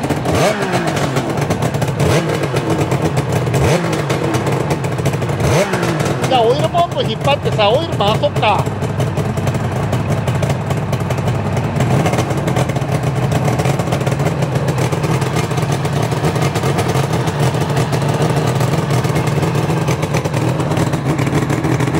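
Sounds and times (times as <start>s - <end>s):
two-stroke engine idling: 0.0s - 21.9s.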